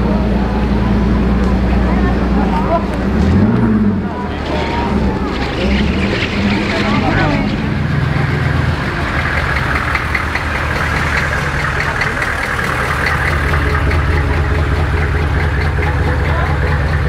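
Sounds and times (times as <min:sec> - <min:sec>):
car engine idling: 0:00.0 - 0:17.0
crowd chatter: 0:00.0 - 0:17.0.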